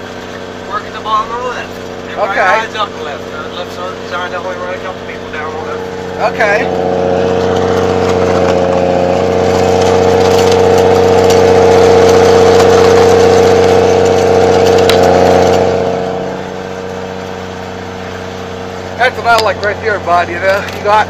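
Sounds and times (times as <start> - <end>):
snowcat engine droning: 0.0 - 21.0.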